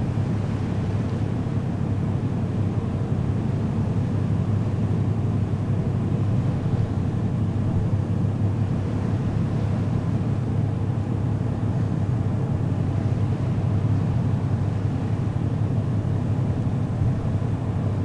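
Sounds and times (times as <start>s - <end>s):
ferry engine drone: 0.0s - 18.0s
wind and sea rushing: 0.0s - 18.0s.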